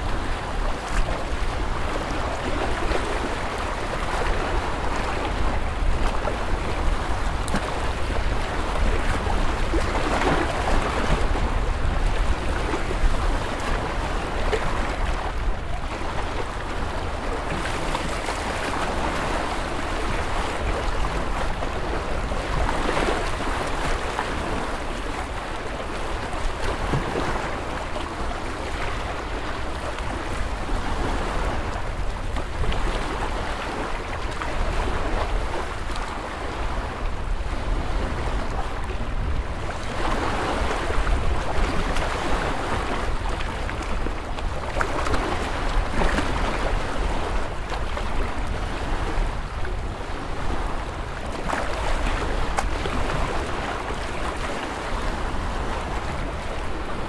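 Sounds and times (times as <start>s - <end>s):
small waves washing on shore: 0.0s - 57.0s.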